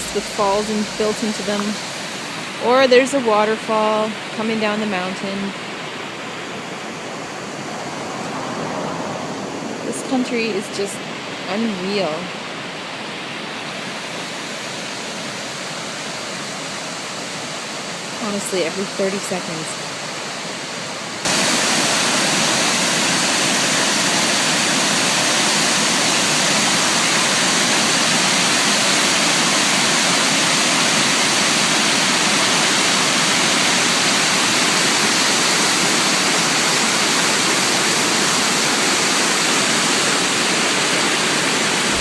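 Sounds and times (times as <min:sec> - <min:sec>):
waterfall rushing: 0:00.0 - 0:18.9, 0:19.5 - 0:42.0.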